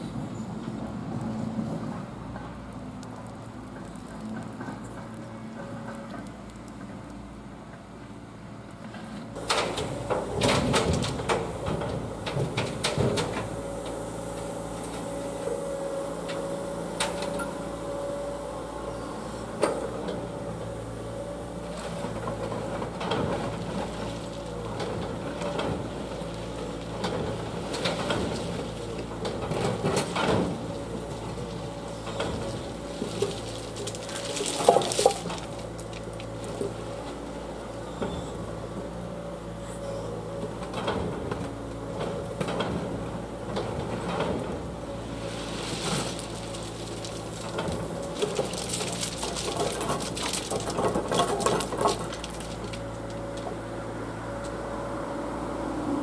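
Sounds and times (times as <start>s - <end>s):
diesel engine running: 9.4s - 56.0s.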